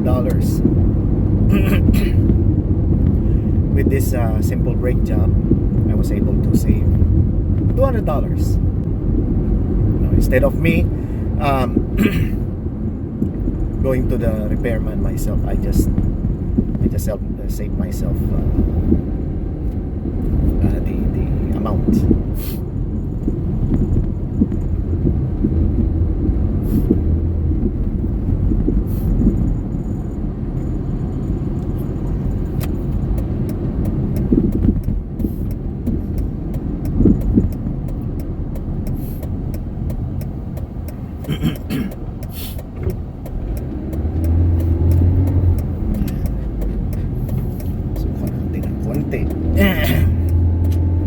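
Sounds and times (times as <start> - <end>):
road and engine rumble: 0.0 - 51.0.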